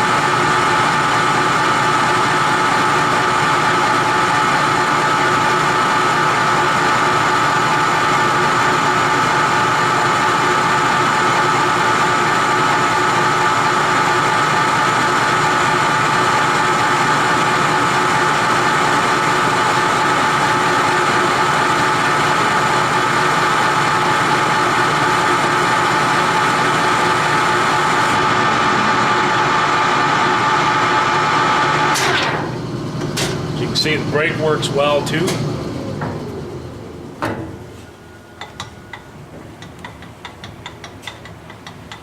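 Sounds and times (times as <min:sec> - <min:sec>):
lathe running with gear whine: 0:00.0 - 0:42.0.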